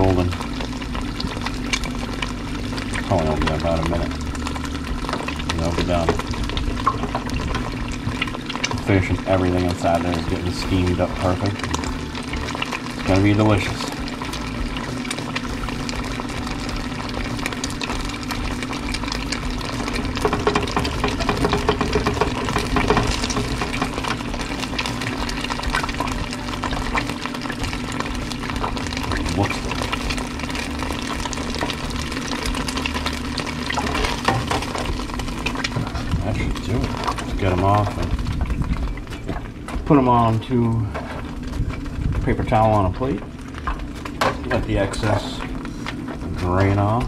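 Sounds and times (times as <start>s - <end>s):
fryer low hum: 0.0s - 47.0s
oil bubbling and crackling: 0.0s - 47.0s.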